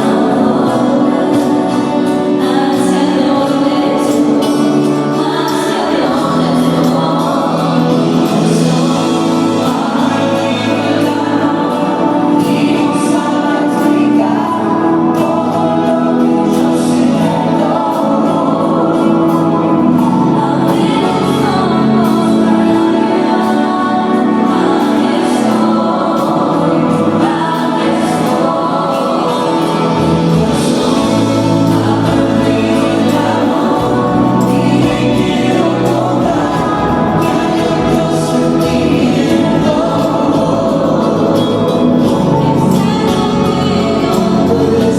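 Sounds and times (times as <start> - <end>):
choir singing held notes: 0.0 - 44.9.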